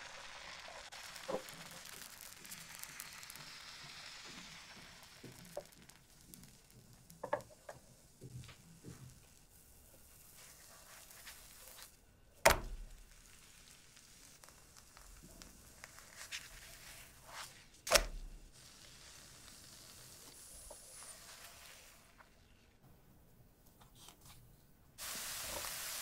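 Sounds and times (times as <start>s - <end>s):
batter sizzling in frying pan: 0.0s - 22.7s, 25.0s - 26.0s.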